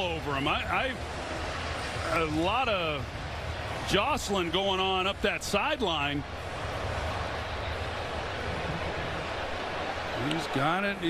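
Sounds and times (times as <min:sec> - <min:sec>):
stadium crowd roar: 0:00.0 - 0:11.0.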